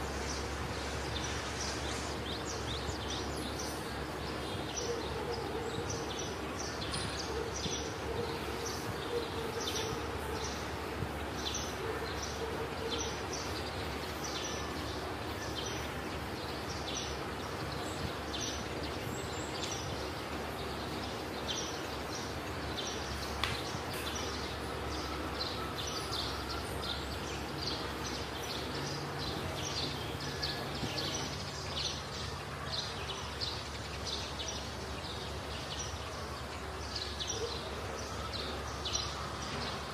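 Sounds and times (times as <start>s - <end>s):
birds chirping: 0.0s - 39.9s
steady low background noise: 0.0s - 39.9s.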